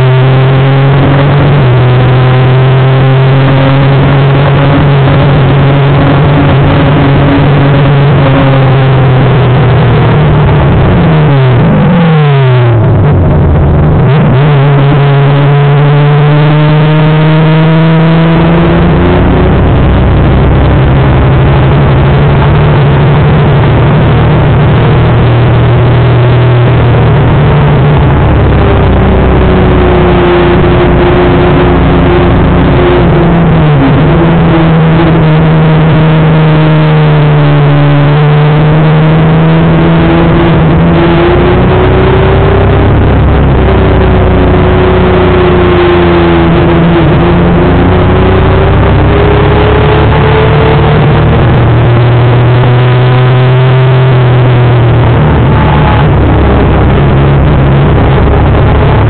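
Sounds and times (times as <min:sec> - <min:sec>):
high-revving motorcycle engine: 0:00.0 - 0:59.0
wind rush on microphone: 0:00.0 - 0:59.0.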